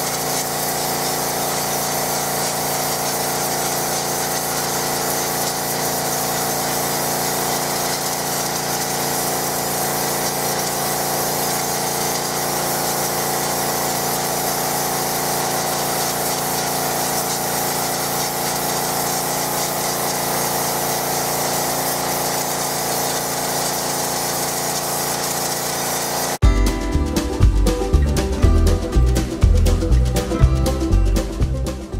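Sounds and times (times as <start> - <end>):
high-pressure water jet hissing: 0.0 - 26.4.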